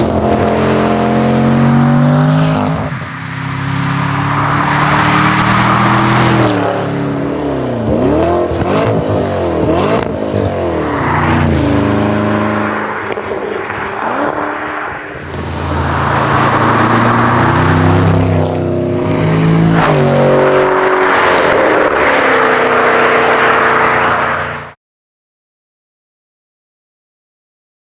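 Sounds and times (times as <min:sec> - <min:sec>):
car engine revving loudly: 0:00.0 - 0:24.8.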